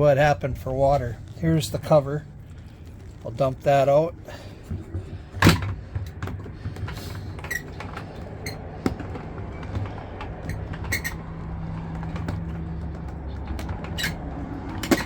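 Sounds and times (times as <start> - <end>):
low background rumble: 0.0 - 15.0
low steady hum: 0.0 - 15.0.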